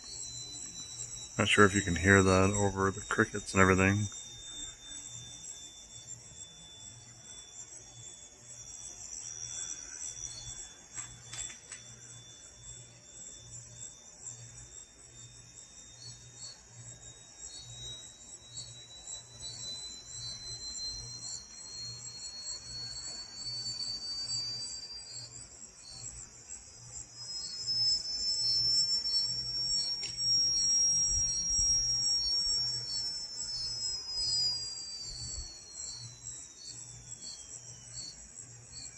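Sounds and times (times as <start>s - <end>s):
crickets chirping: 0.0s - 38.9s
thin whistling tone: 0.0s - 38.9s.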